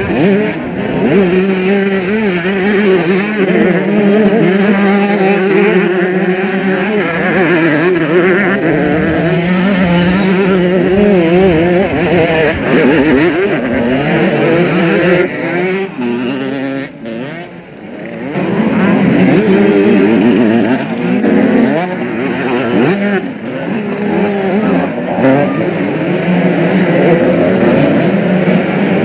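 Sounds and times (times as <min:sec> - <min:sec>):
motocross engines revving: 0:00.0 - 0:29.0.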